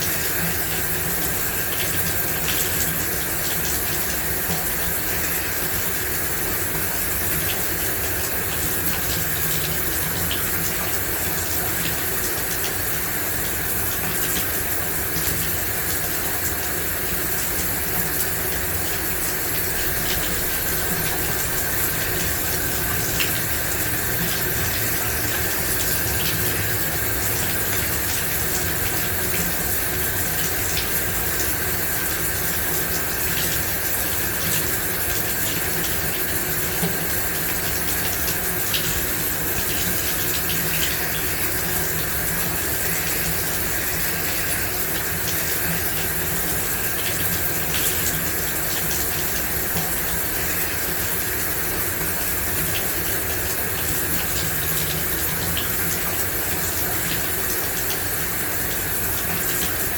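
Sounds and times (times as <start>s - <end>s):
shower water spraying: 0.0s - 59.9s
water drips: 0.0s - 59.9s.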